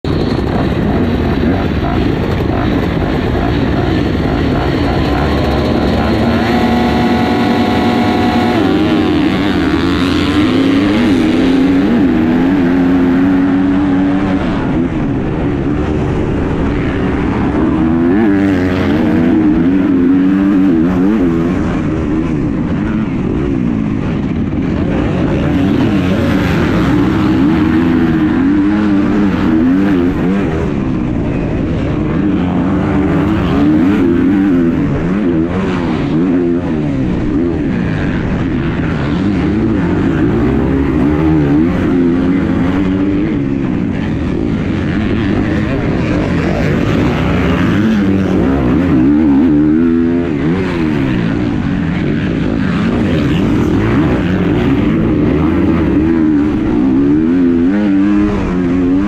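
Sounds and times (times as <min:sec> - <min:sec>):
dirt bike engine revving: 0:00.1 - 0:59.0.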